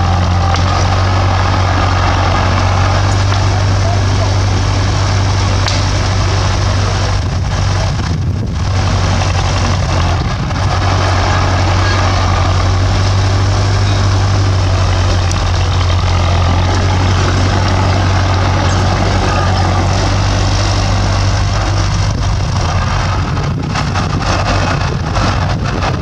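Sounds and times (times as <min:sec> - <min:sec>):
bulldozer diesel engine running: 0:00.0 - 0:26.0
machine noise: 0:00.0 - 0:26.0.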